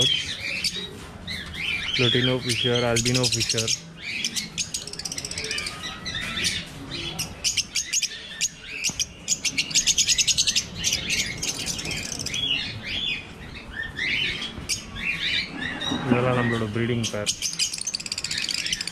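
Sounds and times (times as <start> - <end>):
lovebirds chattering high chirps: 0.0 - 18.9.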